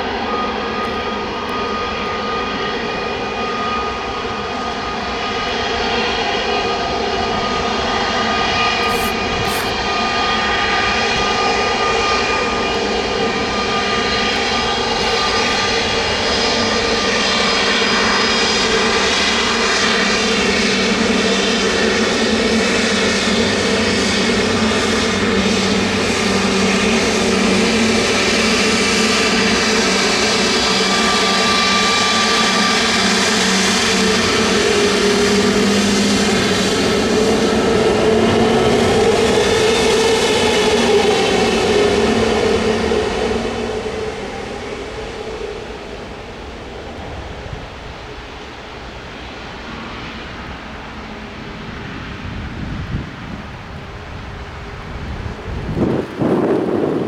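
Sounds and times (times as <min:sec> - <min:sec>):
jet engines roaring and whining: 0:00.0 - 0:57.0.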